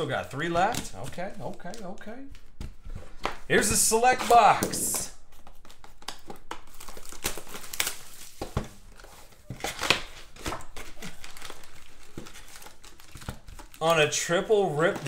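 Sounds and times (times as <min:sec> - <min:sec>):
wrapping and cardboard crinkling: 0:00.2 - 0:15.0.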